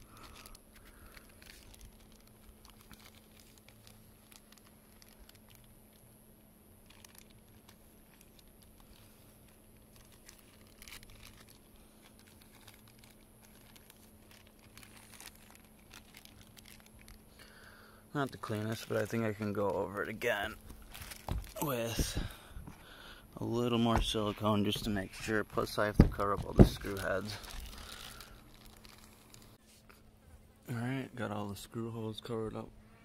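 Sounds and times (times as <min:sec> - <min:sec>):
plastic bag crinkling: 0:00.0 - 0:06.1, 0:06.7 - 0:29.6.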